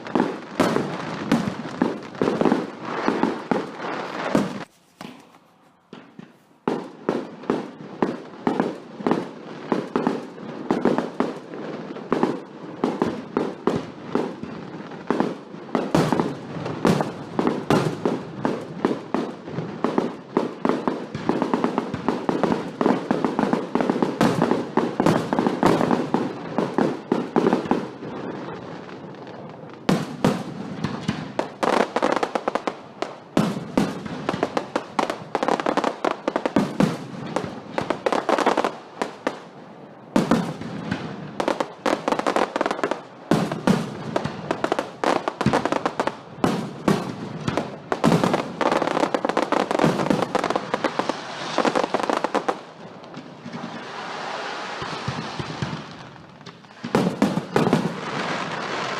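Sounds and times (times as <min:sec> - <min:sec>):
fireworks bangs and crackling: 0:00.0 - 0:58.9.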